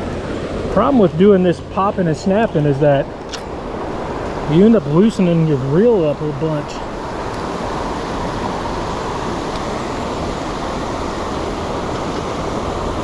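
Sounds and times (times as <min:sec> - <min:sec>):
water rushing over a dam: 0:00.0 - 0:13.0.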